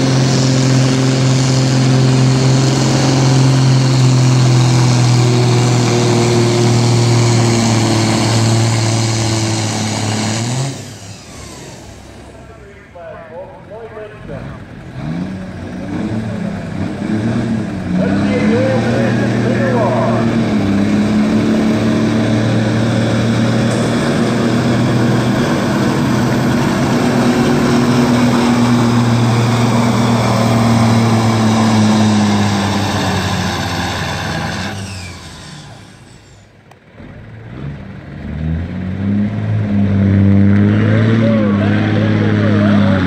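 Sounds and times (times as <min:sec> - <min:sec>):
faint engine: 0:00.0 - 0:43.0
truck diesel engine under load: 0:00.0 - 0:43.0.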